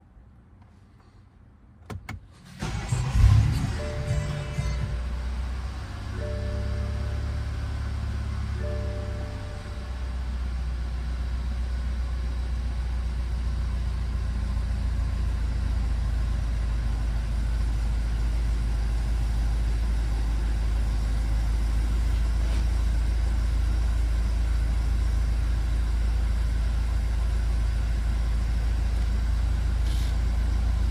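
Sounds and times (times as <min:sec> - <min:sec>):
car engine idling: 0:02.4 - 0:30.9.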